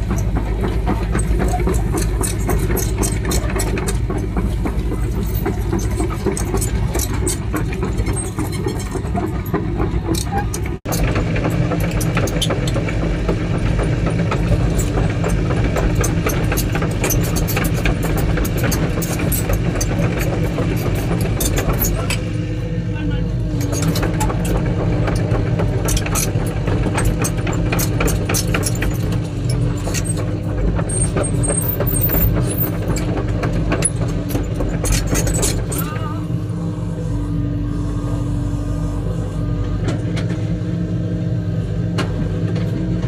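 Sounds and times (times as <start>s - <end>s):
rapid clicking and clatter: 0.0s - 22.2s, 23.6s - 36.0s
diesel engine running: 0.0s - 43.0s.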